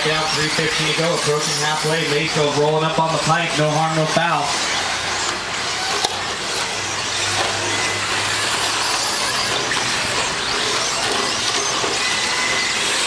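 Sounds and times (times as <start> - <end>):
rc trucks motors whining: 0.0 - 13.0.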